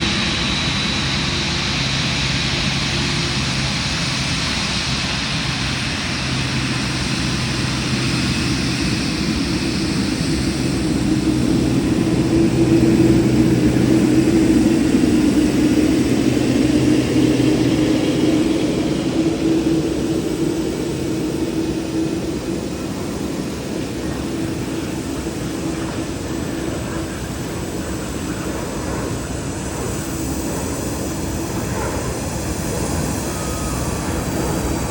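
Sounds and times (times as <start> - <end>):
jet engines rushing: 0.0 - 34.9
high whine: 6.0 - 34.9.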